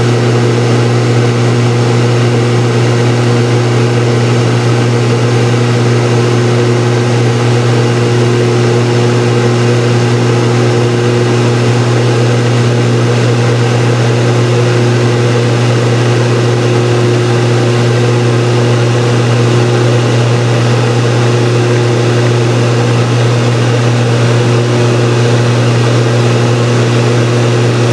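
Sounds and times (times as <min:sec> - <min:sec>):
turboprop cabin drone: 0:00.0 - 0:27.9.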